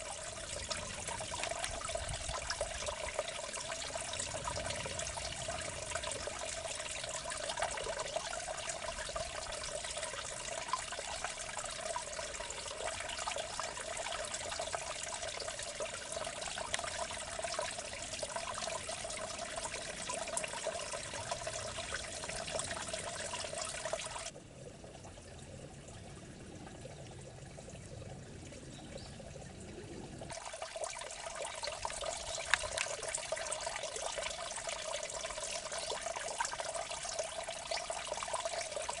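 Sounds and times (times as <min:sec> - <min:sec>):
water trickling in a ditch: 0:00.0 - 0:39.0.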